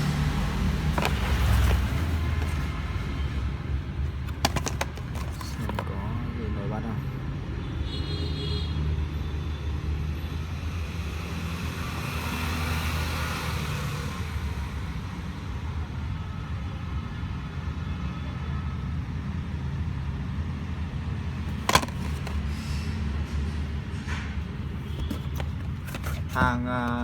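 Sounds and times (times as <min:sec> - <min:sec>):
low rumble of road traffic: 0:00.0 - 0:27.0.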